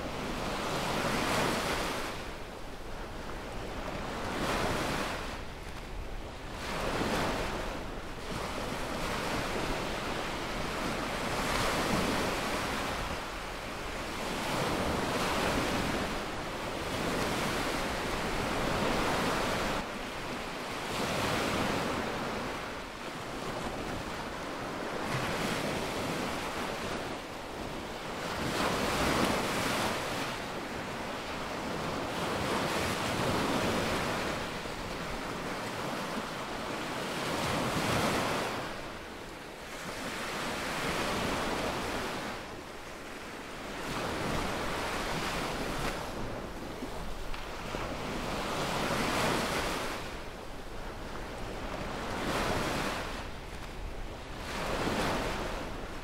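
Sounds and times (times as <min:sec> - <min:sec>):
small waves on sandy beach: 0:00.0 - 0:56.0.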